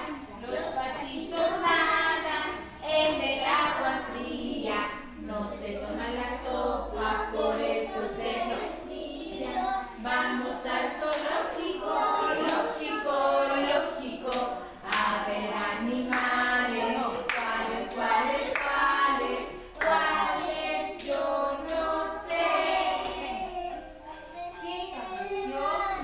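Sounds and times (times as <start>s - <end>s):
children singing in unison: 0.0s - 26.0s.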